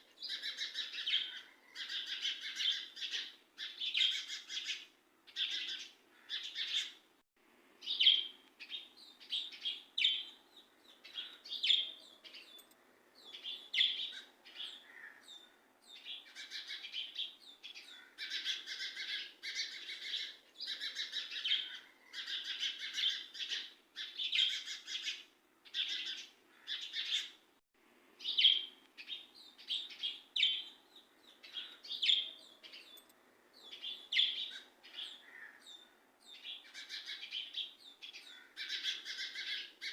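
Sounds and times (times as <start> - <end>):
birds chirping and twittering: 0.0 - 7.1, 7.8 - 27.4, 28.2 - 39.9.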